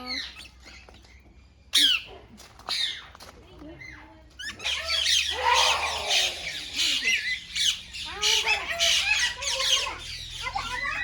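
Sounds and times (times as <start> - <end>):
parrots squawking and chirping: 0.0 - 11.0.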